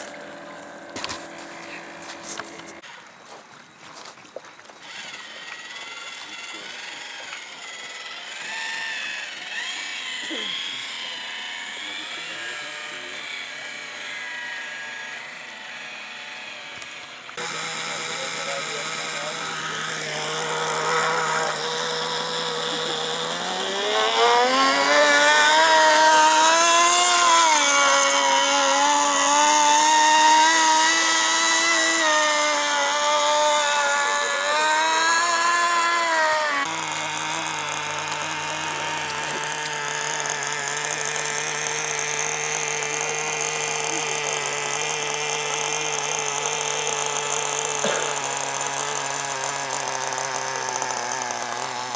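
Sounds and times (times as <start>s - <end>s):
model boat engine buzzing: 0.0s - 3.1s, 4.6s - 51.9s.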